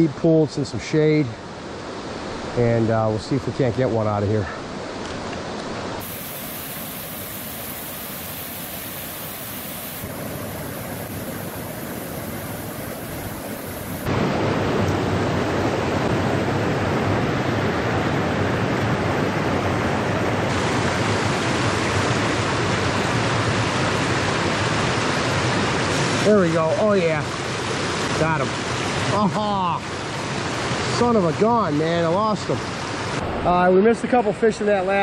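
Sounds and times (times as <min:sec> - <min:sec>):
creek water rushing over rocks: 0:01.4 - 0:35.0.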